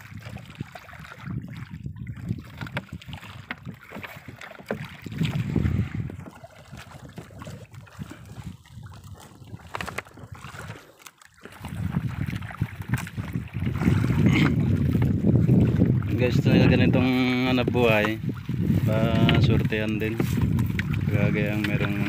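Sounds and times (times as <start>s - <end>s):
wind buffeting microphone: 0.0s - 10.8s, 11.4s - 22.0s
water lapping at boat hull: 0.0s - 22.0s.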